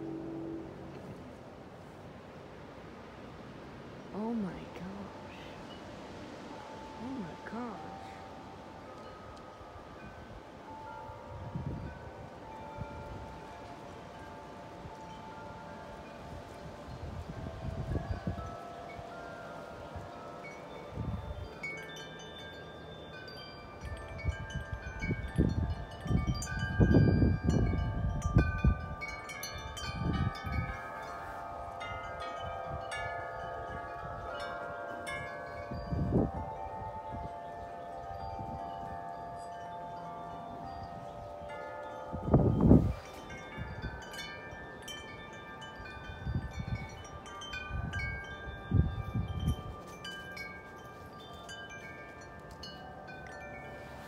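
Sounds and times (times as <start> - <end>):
metal wind chimes ringing: 0.0 - 54.0
wind buffeting microphone: 3.5 - 54.0.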